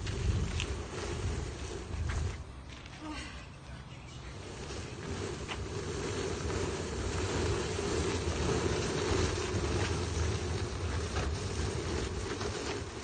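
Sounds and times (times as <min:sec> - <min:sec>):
tires scraping across asphalt: 0:00.0 - 0:13.0.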